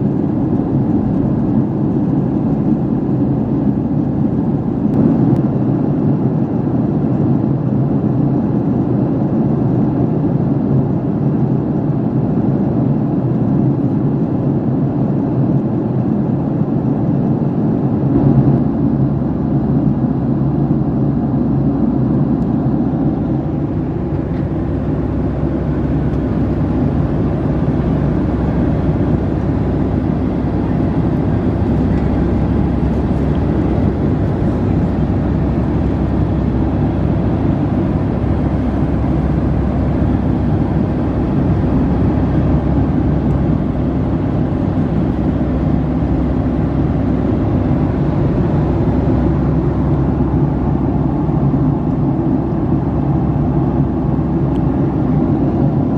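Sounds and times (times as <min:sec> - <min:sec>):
airliner cabin jet rumble: 0:00.0 - 0:55.9.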